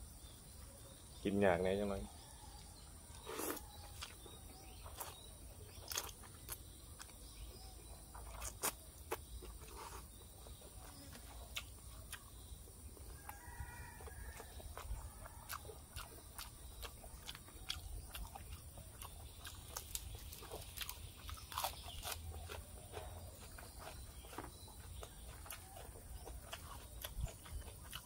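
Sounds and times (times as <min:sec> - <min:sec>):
slurping and chewing: 0:03.1 - 0:12.4, 0:13.0 - 0:28.0.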